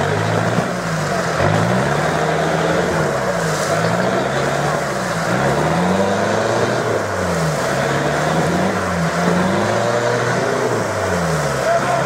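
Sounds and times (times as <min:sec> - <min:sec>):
truck engine revving: 0:00.0 - 0:12.0
tyres churning through mud: 0:00.0 - 0:12.0.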